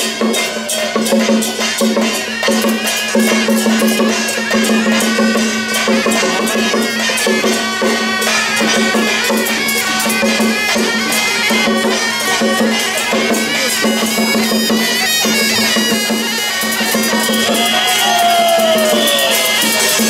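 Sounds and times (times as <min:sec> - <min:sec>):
fast cymbal and drum strokes: 0:00.0 - 0:20.0
shrill reed horn melody: 0:03.8 - 0:20.0.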